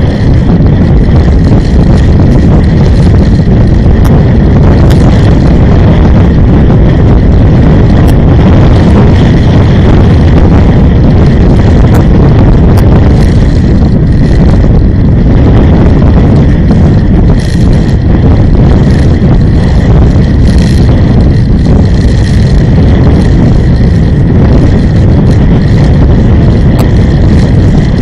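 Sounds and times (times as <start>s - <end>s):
vehicle driving on road: 0.0s - 28.0s
wind buffeting microphone: 0.0s - 28.0s.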